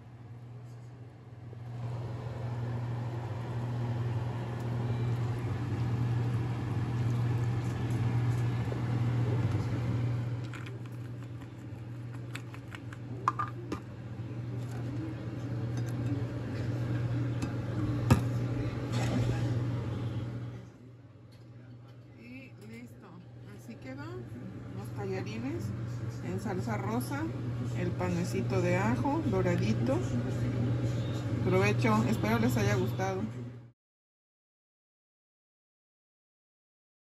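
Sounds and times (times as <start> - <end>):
low mechanical hum with rushing: 0.0 - 33.7.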